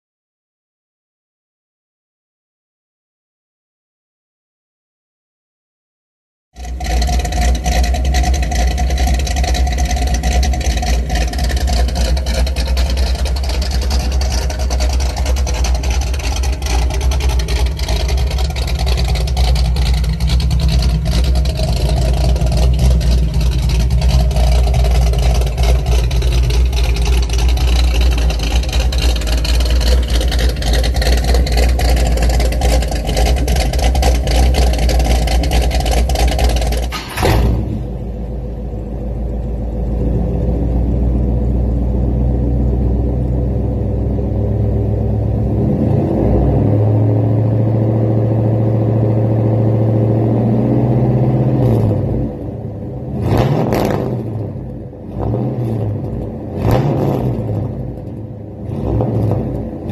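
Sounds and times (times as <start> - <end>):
car exhaust idling rumble: 6.6 - 45.8, 46.8 - 59.9.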